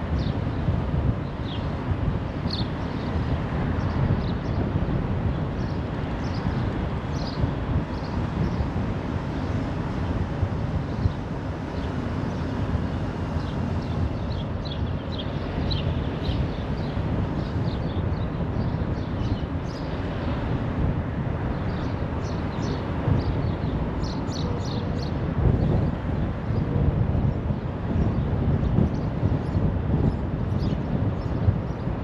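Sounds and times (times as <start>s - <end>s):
wind noise: 0.0s - 32.0s.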